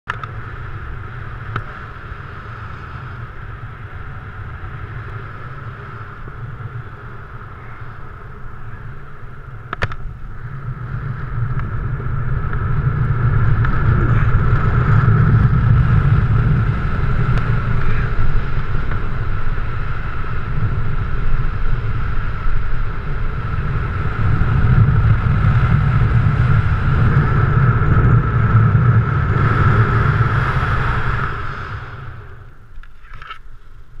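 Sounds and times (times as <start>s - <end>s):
wind rushing over camera: 0.1s - 34.0s.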